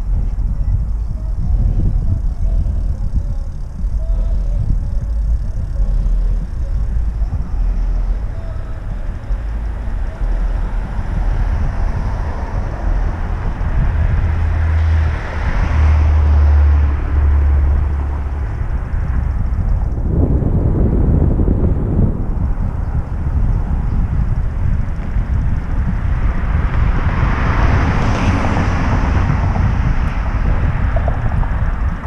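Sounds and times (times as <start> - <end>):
rushing road noise: 0.0 - 32.0
wind buffeting microphone: 0.0 - 32.0.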